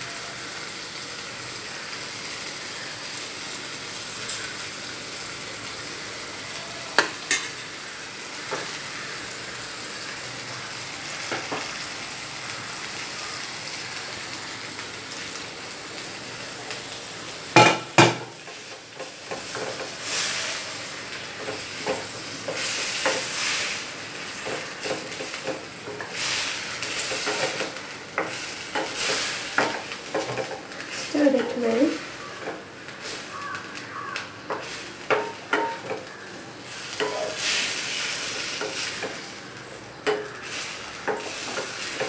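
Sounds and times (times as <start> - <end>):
chicken sizzling in a pan: 0.0 - 42.0.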